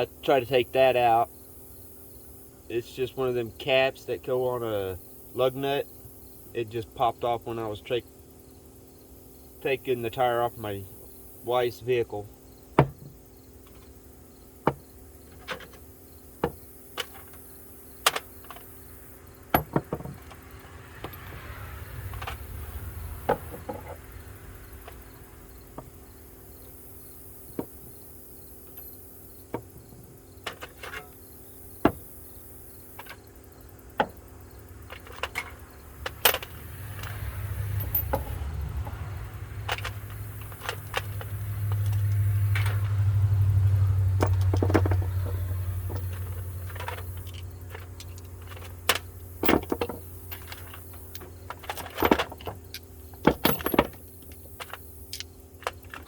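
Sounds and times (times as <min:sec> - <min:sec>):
crickets chirring: 0:00.0 - 0:56.0
car low rumble: 0:09.6 - 0:56.0.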